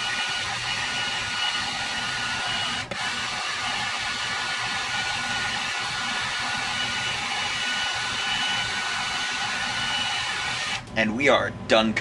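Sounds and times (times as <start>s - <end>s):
heat gun blowing: 0.0s - 10.9s.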